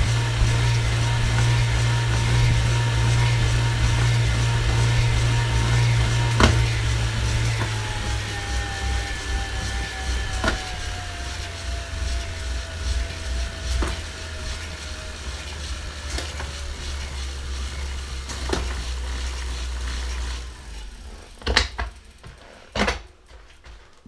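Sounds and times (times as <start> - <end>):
bike trainer humming and whining: 0.0 - 23.9.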